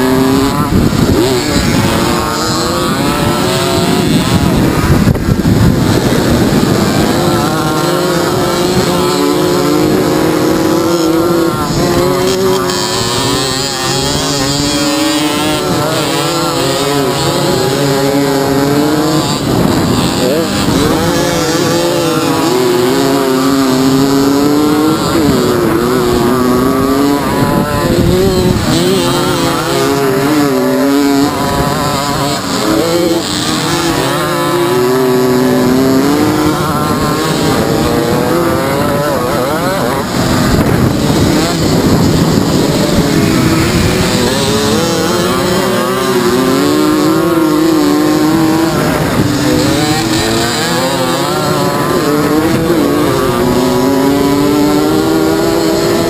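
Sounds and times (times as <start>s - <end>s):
moped engines revving: 0.0s - 56.0s.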